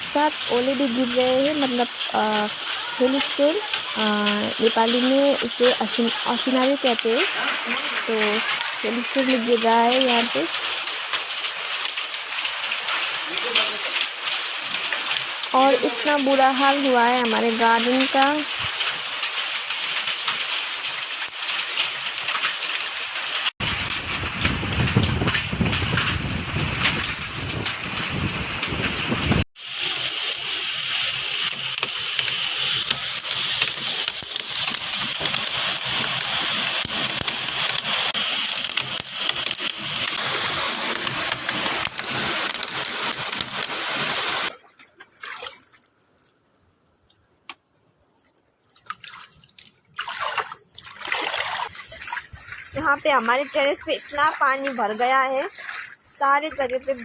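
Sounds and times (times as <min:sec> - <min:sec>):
heavy rain with hail: 0:00.0 - 0:44.5, 0:51.2 - 0:57.0.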